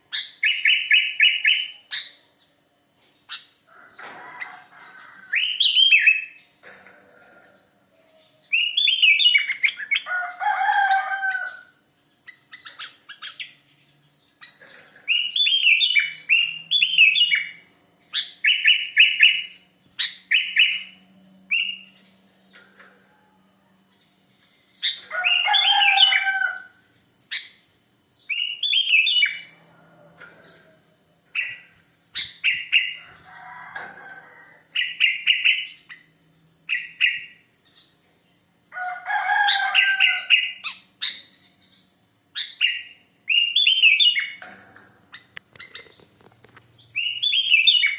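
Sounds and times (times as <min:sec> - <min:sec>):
bird singing warbled phrases: 0:00.0 - 0:23.0, 0:23.8 - 0:34.0, 0:34.6 - 0:47.9.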